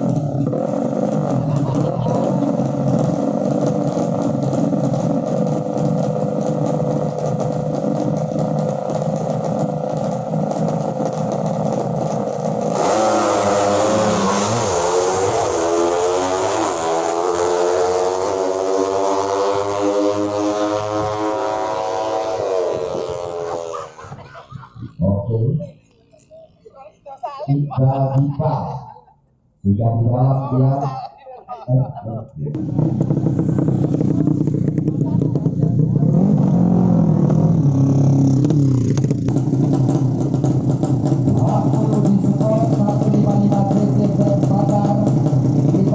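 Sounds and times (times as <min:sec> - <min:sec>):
motorcycle engines revving: 0:00.0 - 0:29.0, 0:29.7 - 0:45.9.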